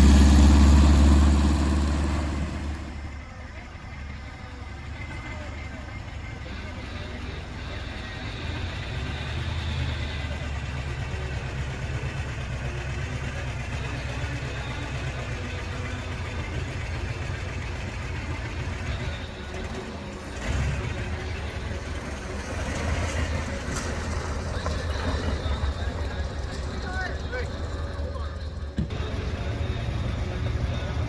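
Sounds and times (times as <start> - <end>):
car engines running at low speed: 0.0 - 31.0.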